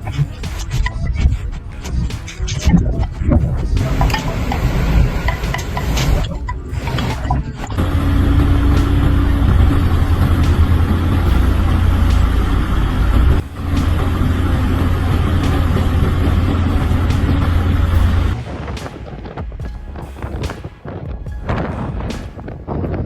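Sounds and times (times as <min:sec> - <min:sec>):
vehicle engine rumble: 0:00.0 - 0:18.8
road noise: 0:00.0 - 0:22.0.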